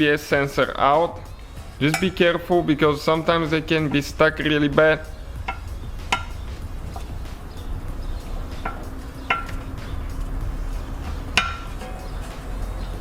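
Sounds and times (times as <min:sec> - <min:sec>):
metal tools clinking on metal: 0:00.9 - 0:13.0.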